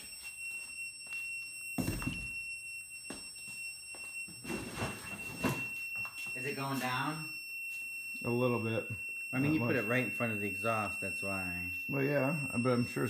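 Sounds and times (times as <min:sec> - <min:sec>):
high-pitched alarm tone: 0:00.0 - 0:13.0.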